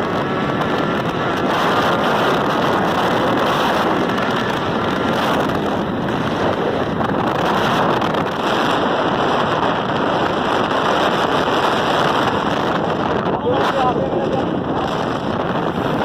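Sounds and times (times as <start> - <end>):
motorcycle engine running: 0.0 - 16.0
wind rushing on microphone: 0.0 - 16.0.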